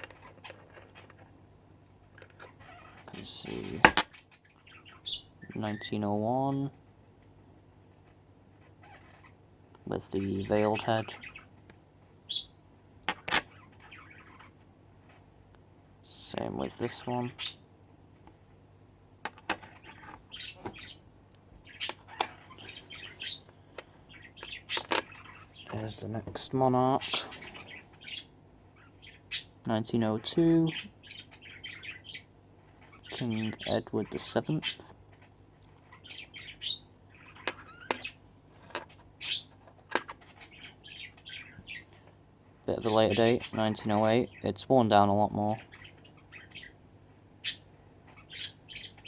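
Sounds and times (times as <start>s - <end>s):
small bird chirping: 2.0s - 6.7s, 8.6s - 11.6s, 12.2s - 15.3s, 16.1s - 17.7s, 19.4s - 44.6s, 45.2s - 46.8s, 47.4s - 49.0s.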